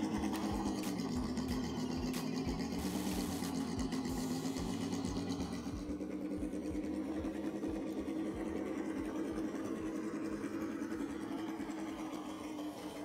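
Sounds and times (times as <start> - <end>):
toy car motor and gears whining: 0.0 - 13.0.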